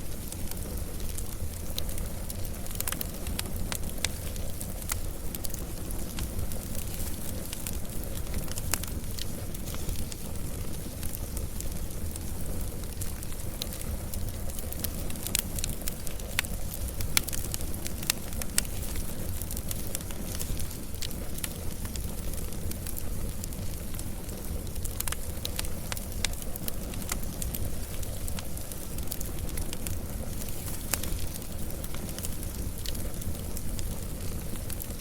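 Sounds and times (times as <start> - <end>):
low rumble of flame: 0.0 - 35.0
wood fire crackling: 0.0 - 35.0.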